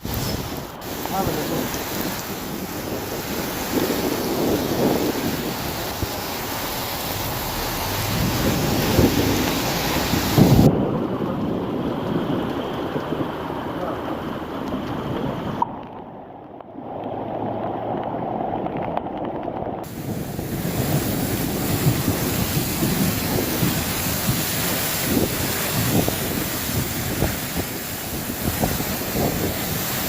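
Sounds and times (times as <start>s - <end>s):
wind buffeting microphone: 0.0s - 15.8s, 16.7s - 30.0s
hiss of wind and rain: 0.0s - 16.0s, 16.6s - 30.0s.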